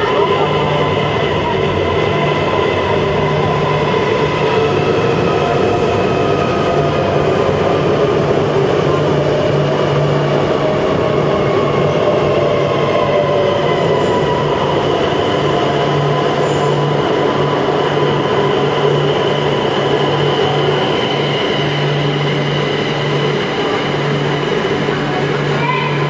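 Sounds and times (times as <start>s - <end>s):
electric train rumbling and humming: 0.0s - 26.0s.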